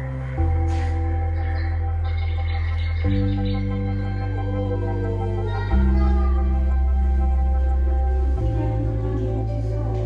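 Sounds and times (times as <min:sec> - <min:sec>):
background music of held chords: 0:00.0 - 0:10.0.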